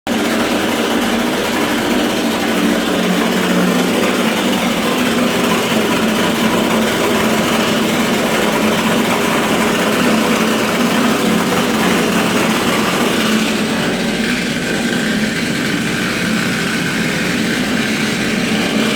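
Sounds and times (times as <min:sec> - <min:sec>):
steam boiler rumbling: 0:00.1 - 0:18.9.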